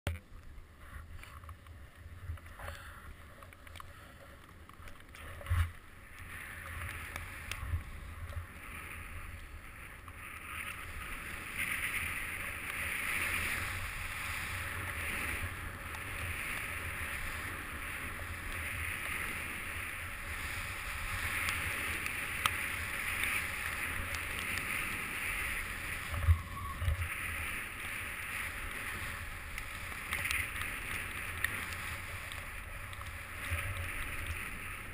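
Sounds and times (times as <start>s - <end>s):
wind rumble on microphone: 0.2s - 34.9s
ski edges sliding over snow: 0.5s - 34.9s.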